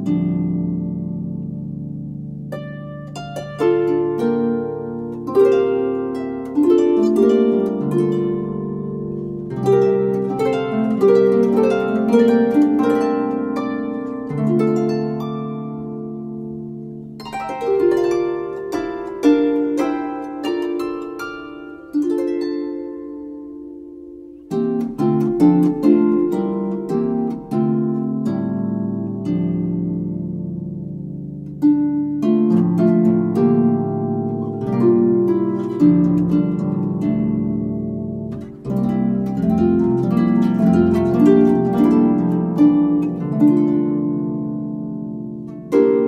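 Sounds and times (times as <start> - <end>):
harp playing: 0.0 - 46.0.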